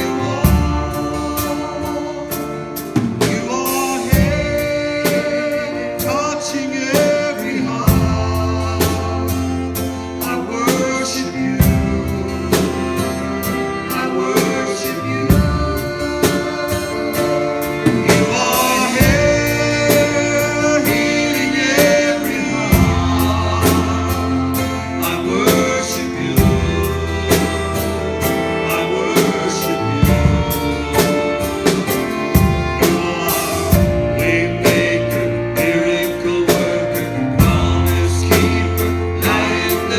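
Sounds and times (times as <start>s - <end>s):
worship song with band: 0.0s - 39.9s.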